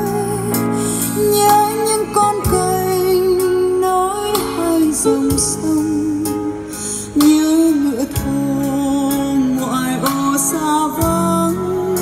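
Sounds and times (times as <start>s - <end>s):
pop ballad on speakers: 0.0s - 12.0s.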